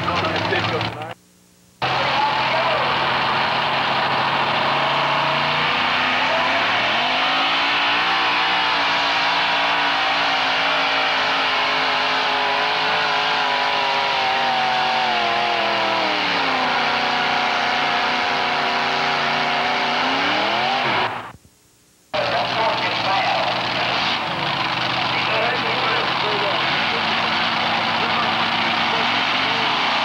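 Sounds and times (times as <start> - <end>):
truck engine at high revs: 0.0 - 1.2, 1.8 - 21.4, 22.2 - 30.0.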